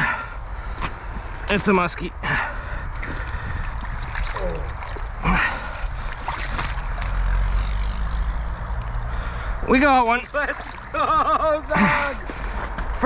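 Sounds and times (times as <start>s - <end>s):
water sloshing and trickling: 0.6s - 13.0s.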